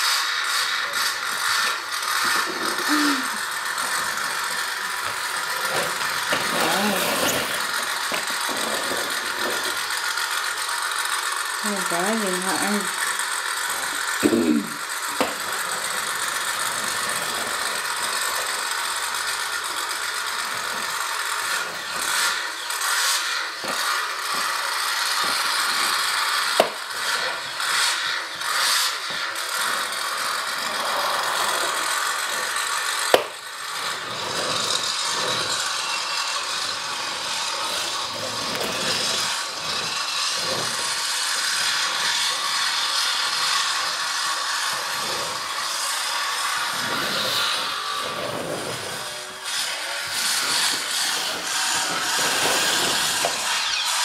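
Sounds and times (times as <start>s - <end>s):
plastic toys rattling on wooden floor: 0.8s - 42.6s, 50.0s - 54.0s.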